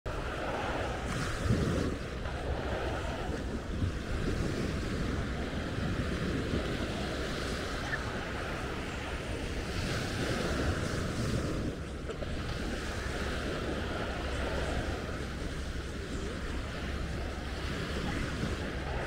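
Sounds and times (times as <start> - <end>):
wind buffeting microphone: 0.0 - 19.0
surf washing onto beach: 0.1 - 19.0.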